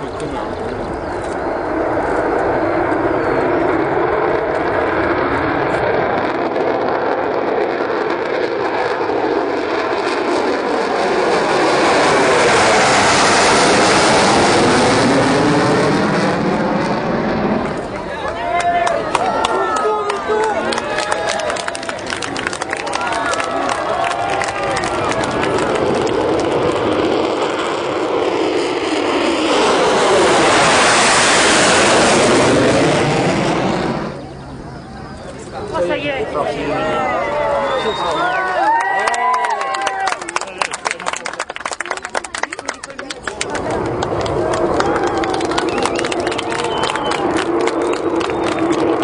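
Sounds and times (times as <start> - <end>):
jet airliner climbing overhead: 0.0 - 49.0.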